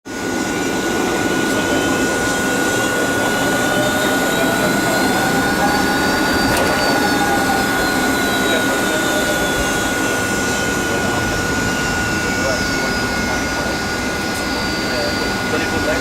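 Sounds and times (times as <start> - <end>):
jet engines running: 0.1 - 16.0
thin high whine: 0.1 - 16.0.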